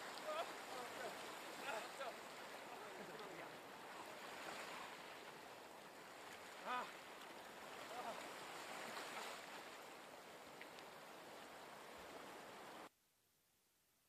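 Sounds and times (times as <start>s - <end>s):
sea surf: 0.0s - 12.9s.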